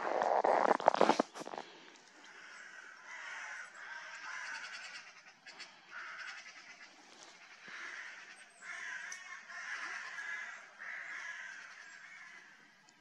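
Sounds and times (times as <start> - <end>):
crows cawing: 2.2 - 12.7.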